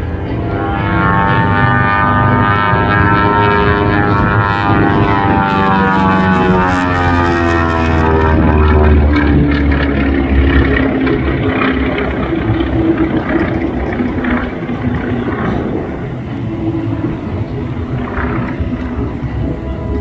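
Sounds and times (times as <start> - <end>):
aircraft engines droning: 0.0 - 20.0.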